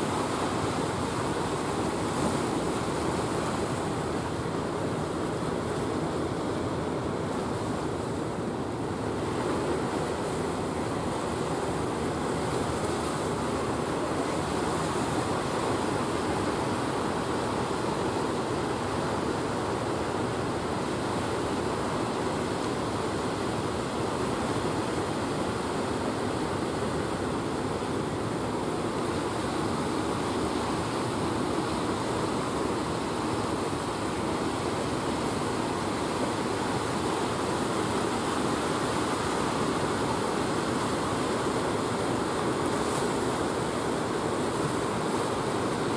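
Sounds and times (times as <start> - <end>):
sea surf rolling onto shore: 0.0 - 45.9.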